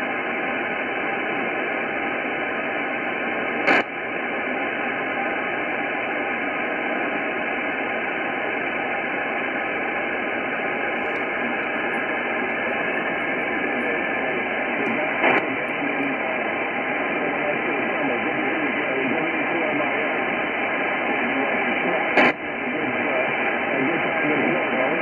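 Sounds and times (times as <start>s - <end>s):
radio speaker hiss: 0.0s - 25.0s.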